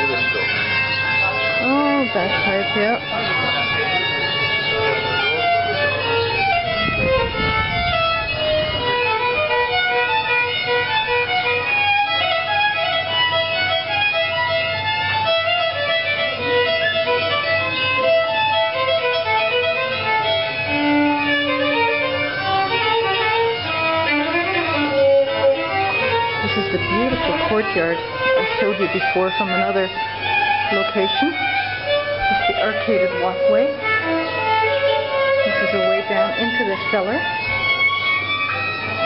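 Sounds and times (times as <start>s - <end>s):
fiddle playing folk tune: 0.0s - 39.0s.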